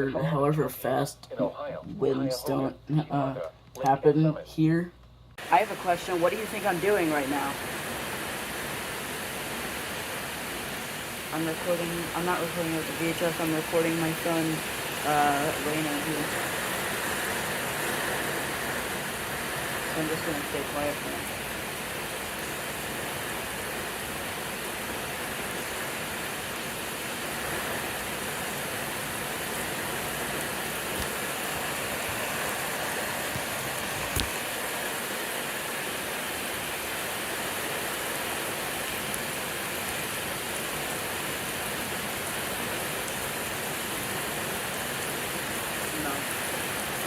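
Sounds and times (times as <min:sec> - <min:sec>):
steady rain falling: 0:05.4 - 0:47.0.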